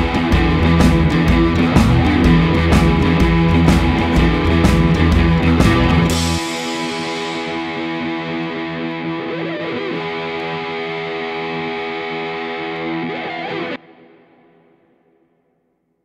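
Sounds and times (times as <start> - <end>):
distorted electric guitar chord: 0.0 - 15.1.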